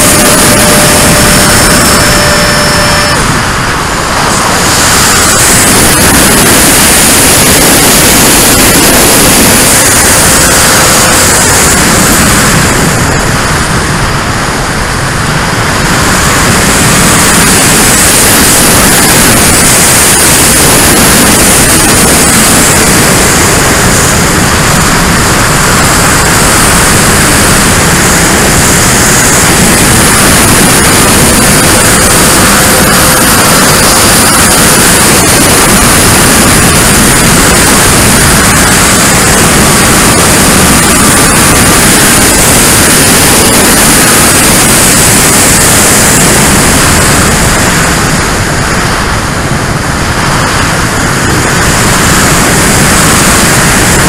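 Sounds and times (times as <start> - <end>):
high fan whine: 0.0 - 54.0
wind rush over microphone: 0.0 - 54.0.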